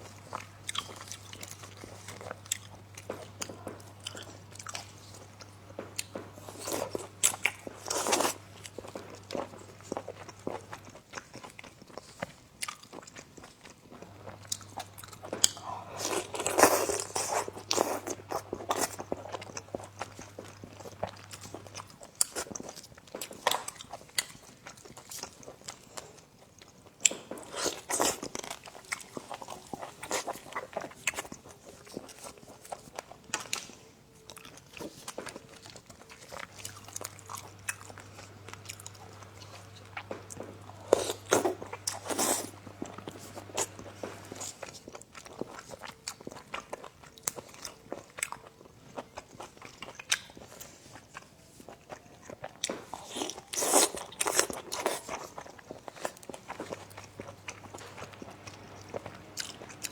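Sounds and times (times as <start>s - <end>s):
person chewing and biting: 0.0s - 26.1s, 34.4s - 51.2s, 51.9s - 59.9s.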